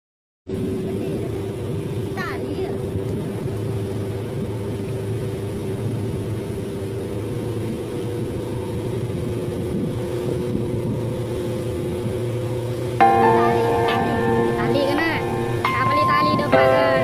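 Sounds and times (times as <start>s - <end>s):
boat engine droning: 0.5s - 17.0s.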